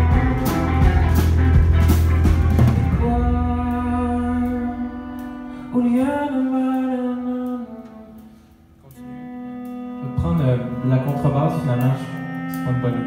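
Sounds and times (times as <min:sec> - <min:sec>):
live band playing held notes: 0:00.0 - 0:13.0.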